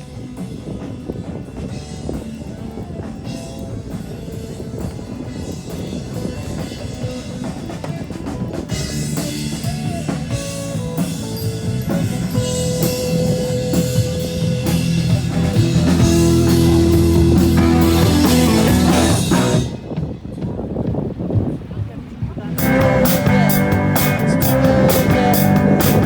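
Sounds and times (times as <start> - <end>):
rock music with drums and guitar: 0.0 - 19.9, 22.5 - 26.0.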